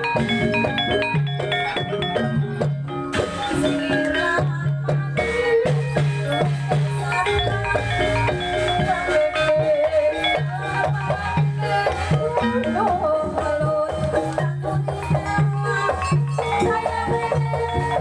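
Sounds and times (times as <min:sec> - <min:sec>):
drums: 0:00.0 - 0:18.0
tuned mallet percussion melody: 0:00.0 - 0:18.0.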